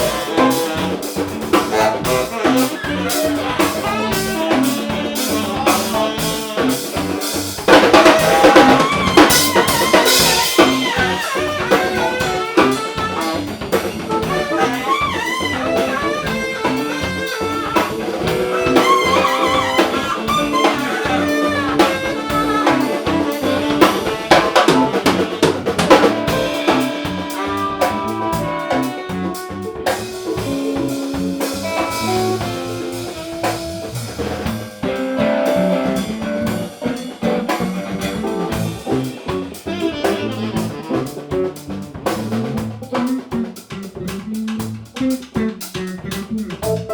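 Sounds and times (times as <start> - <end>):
bending melodic lead line: 0.0 - 42.0
drum kit keeping time: 0.0 - 46.9.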